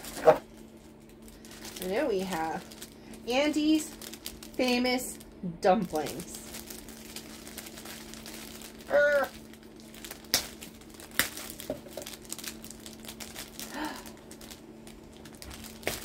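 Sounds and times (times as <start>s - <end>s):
toy packaging crinkling: 0.0s - 16.0s.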